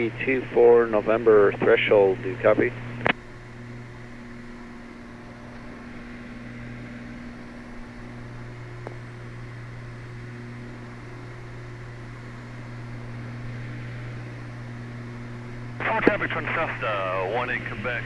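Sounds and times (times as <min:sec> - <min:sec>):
aircraft engines droning: 0:00.0 - 0:18.0.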